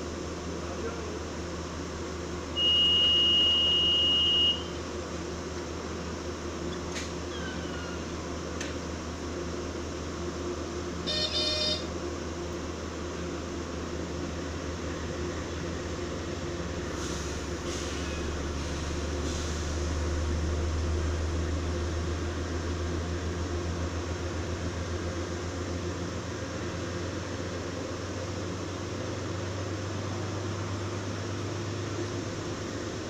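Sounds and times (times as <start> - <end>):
train engine and ventilation drone: 0.0 - 33.0.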